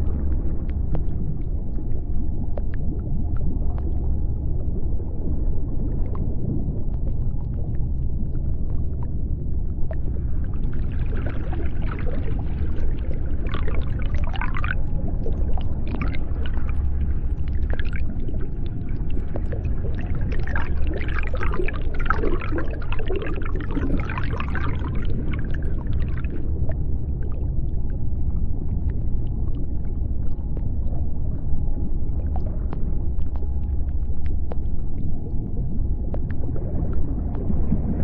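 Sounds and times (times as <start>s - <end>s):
deep underwater rumble: 0.0s - 38.0s.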